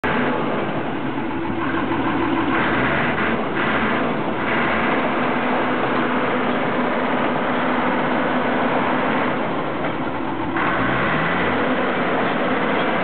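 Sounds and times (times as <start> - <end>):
bulldozer engine running: 0.0 - 13.0.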